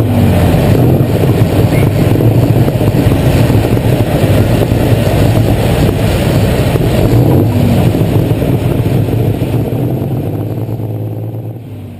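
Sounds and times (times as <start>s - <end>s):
tractor engine running under load: 0.0s - 11.9s.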